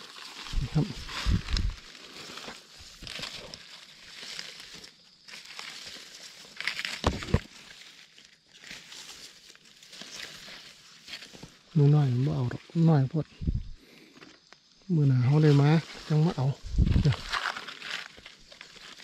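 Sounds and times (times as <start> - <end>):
forest floor debris rustling: 0.0 - 19.0.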